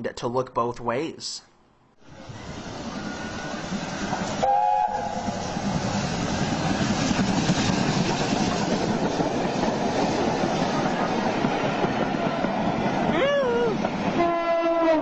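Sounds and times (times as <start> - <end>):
train passing with wheel clatter: 2.0 - 15.0.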